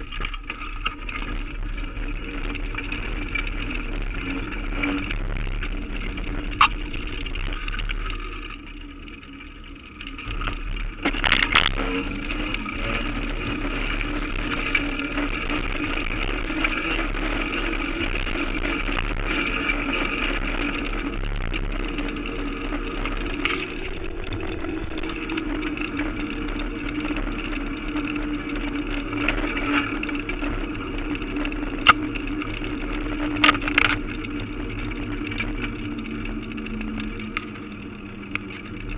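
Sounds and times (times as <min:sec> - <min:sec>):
engine-like drone: 0:00.0 - 0:38.9.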